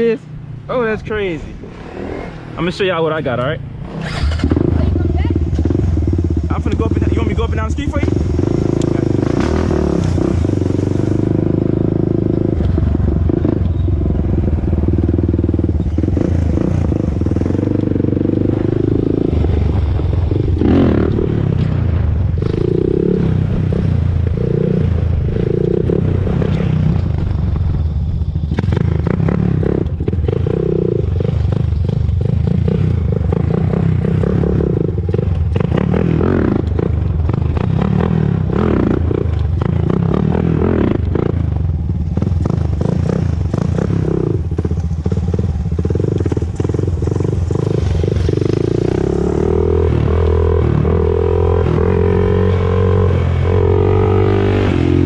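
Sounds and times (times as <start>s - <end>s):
quad engine revving: 3.7s - 27.0s, 28.5s - 55.0s.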